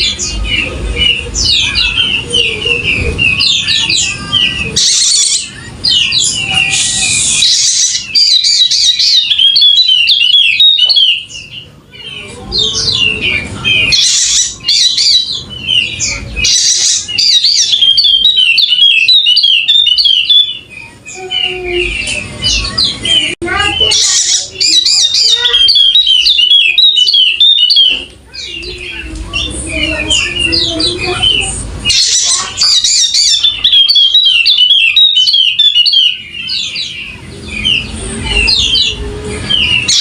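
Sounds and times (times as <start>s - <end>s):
bird twittering song: 0.0s - 40.0s.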